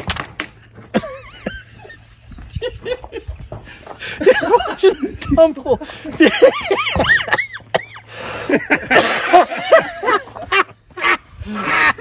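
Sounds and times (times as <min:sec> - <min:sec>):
people laughing: 0:00.5 - 0:12.0.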